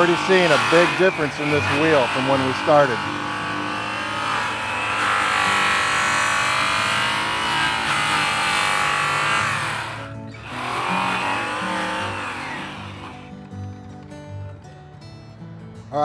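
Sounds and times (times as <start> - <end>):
electric polisher motor whine: 0.0 - 13.5
background music: 0.0 - 16.0.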